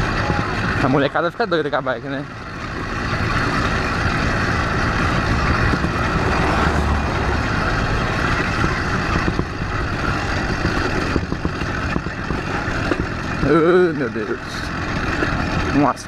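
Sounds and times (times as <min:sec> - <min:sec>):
road and wind noise: 0:00.0 - 0:16.0
small engine running: 0:00.0 - 0:16.0.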